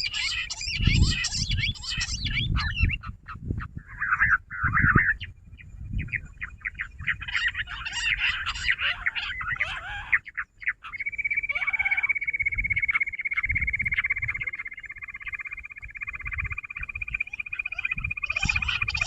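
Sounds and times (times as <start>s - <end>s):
quail chattering calls: 0.0s - 19.0s.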